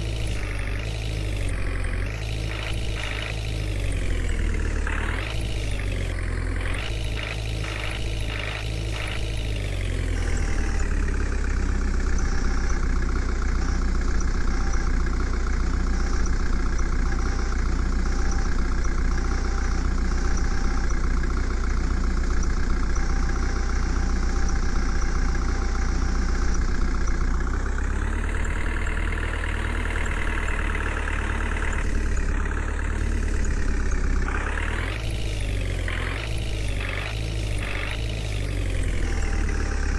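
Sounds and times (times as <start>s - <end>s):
heavy vehicle engine rumbling: 0.0s - 39.9s.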